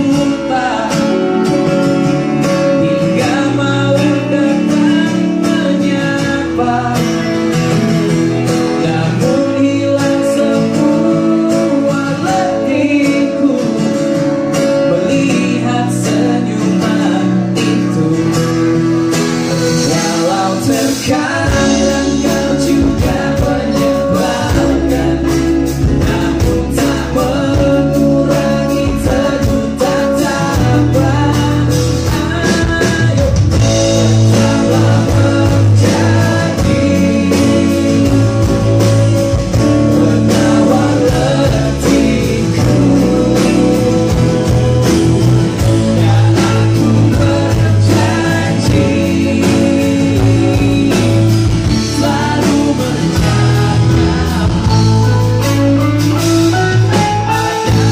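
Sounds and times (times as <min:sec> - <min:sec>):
live pop-rock band: 0:00.0 - 0:57.9
man singing lead vocal: 0:00.0 - 0:57.9.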